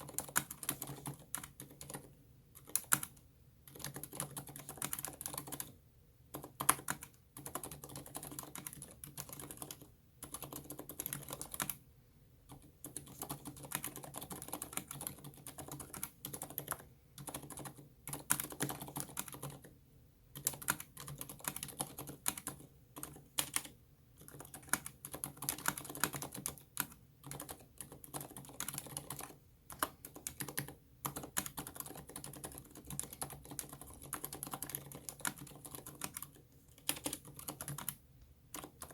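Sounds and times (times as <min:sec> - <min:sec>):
typing on mechanical keyboard: 0:00.0 - 0:11.8, 0:12.5 - 0:19.7, 0:20.4 - 0:38.9.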